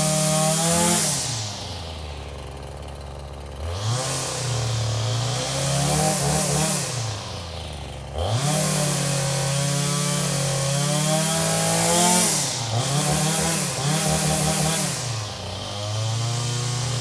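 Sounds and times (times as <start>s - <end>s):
two-stroke engine revving: 0.0s - 17.0s.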